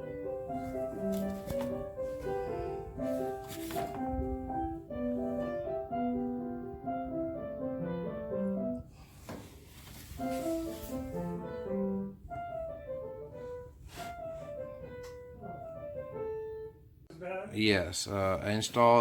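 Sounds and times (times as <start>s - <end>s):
instrumental music melody: 0.0s - 8.9s, 9.9s - 17.0s.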